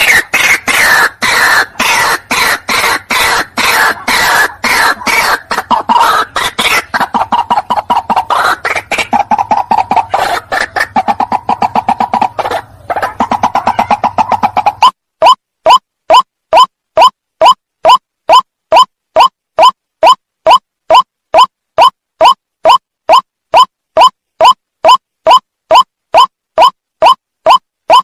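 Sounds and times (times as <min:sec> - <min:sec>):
waterhen calling harsh repeated notes: 0:00.0 - 0:28.0.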